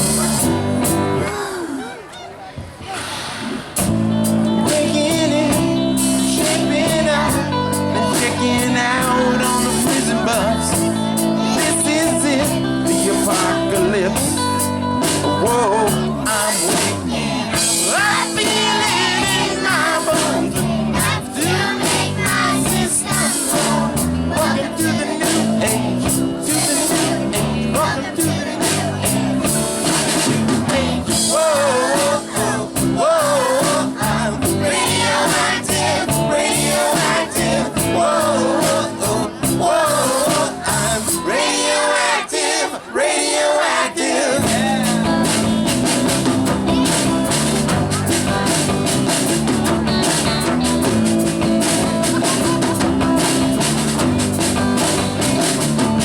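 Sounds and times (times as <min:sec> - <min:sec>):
pop-rock backing track: 0:00.0 - 0:01.5, 0:03.4 - 0:42.2, 0:44.3 - 0:56.0
children's chorus singing: 0:00.0 - 0:14.3, 0:15.3 - 0:55.7.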